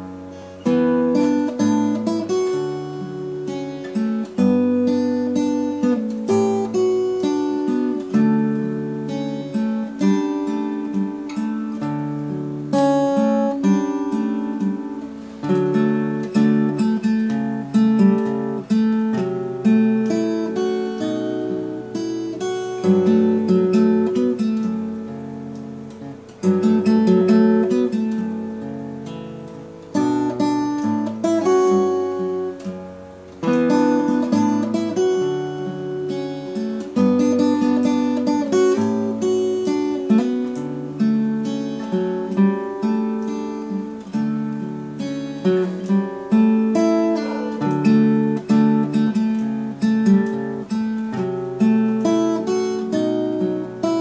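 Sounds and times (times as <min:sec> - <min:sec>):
fingerstyle acoustic guitar: 0:00.0 - 0:54.0.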